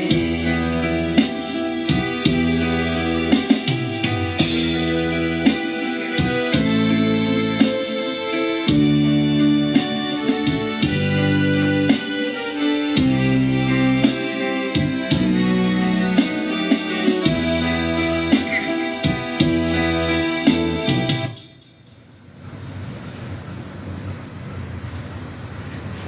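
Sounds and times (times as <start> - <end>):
steady beat: 0.0 - 21.8
electronic keyboard chords: 0.0 - 22.4.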